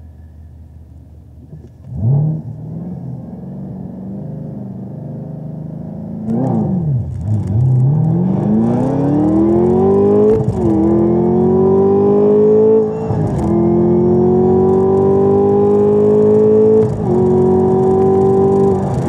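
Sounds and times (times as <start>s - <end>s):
car engine revving at full throttle: 1.6s - 19.0s.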